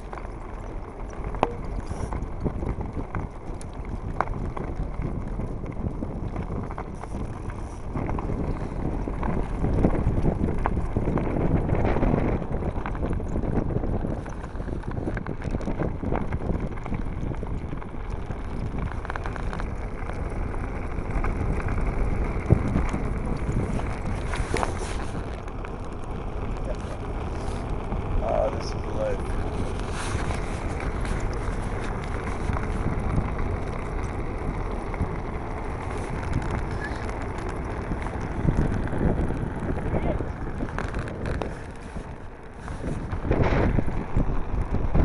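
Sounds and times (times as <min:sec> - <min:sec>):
land yacht rolling rumble: 0:00.0 - 0:45.0
wind buffeting microphone: 0:00.0 - 0:45.0.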